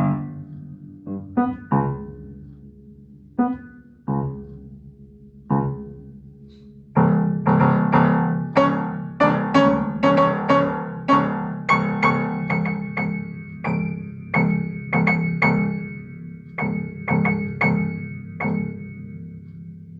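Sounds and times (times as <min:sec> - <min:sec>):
solo piano chords: 0:00.0 - 0:19.9.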